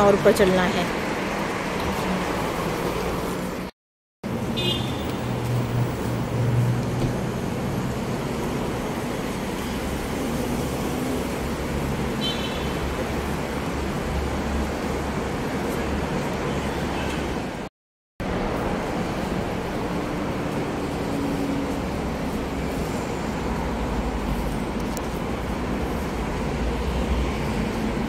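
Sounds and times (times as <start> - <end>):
busy road traffic: 0.0 - 28.0
cars and buses passing: 0.0 - 28.0.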